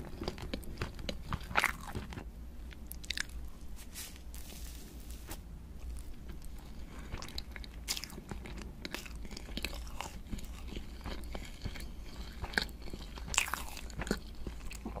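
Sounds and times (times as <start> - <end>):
chewing soft cake: 0.0 - 5.2, 5.8 - 15.0.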